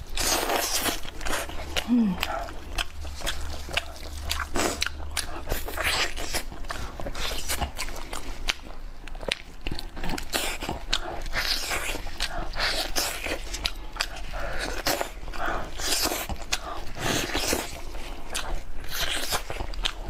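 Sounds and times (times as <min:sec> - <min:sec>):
chewing and crunching meat: 0:00.0 - 0:20.0.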